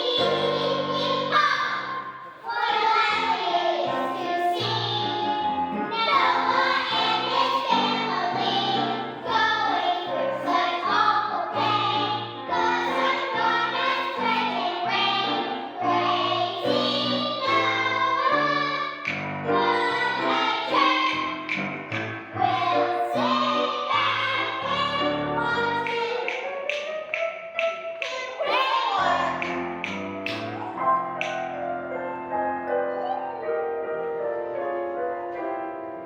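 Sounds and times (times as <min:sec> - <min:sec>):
children's choir singing: 0:00.0 - 0:31.7
instrumental accompaniment: 0:00.0 - 0:36.0.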